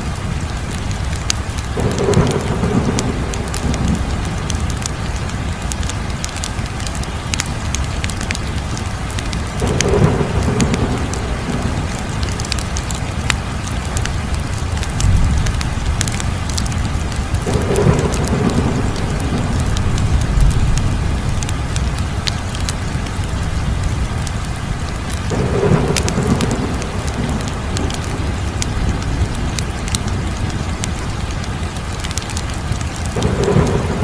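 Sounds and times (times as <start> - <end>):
wood fire crackling and popping: 0.4 - 23.4, 24.1 - 34.0
low rumbling fire roar: 0.5 - 34.0.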